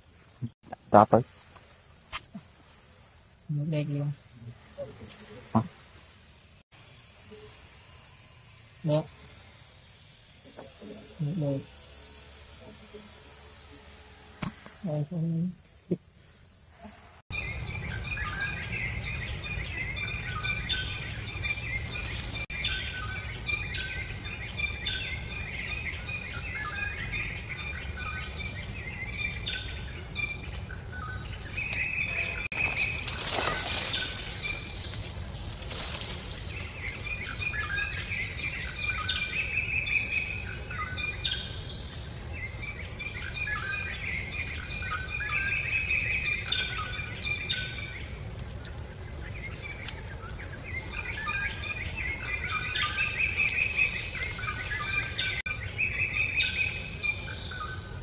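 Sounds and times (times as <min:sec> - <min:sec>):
birds chirping: 0:02.3 - 0:58.0.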